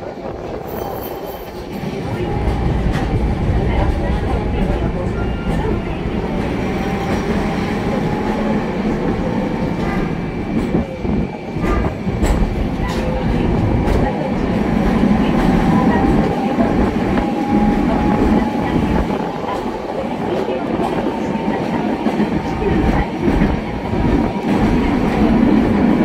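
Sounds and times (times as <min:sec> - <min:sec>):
tram rumble: 0:00.0 - 0:26.0.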